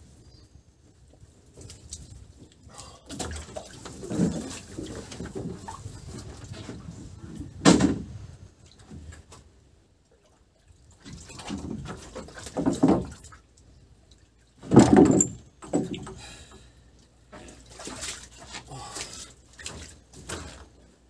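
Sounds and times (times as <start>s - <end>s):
wet splashing in wooden boat: 1.5s - 9.5s, 10.1s - 21.0s.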